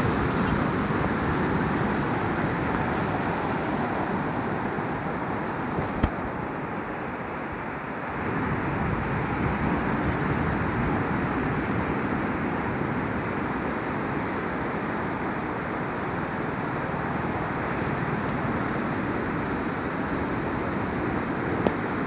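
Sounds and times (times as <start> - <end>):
sea surf washing on beach: 0.0 - 22.0.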